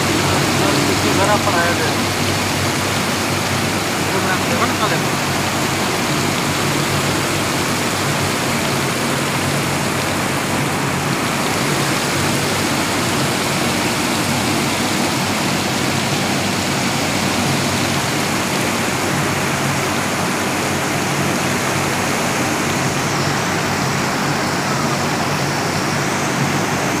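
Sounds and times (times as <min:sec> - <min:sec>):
water pouring and splashing: 0:00.0 - 0:27.0.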